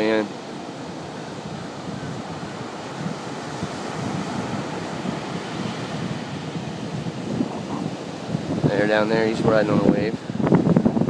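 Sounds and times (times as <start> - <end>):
small waves breaking on sand: 0.0 - 11.0
wind buffeting microphone: 0.0 - 11.0.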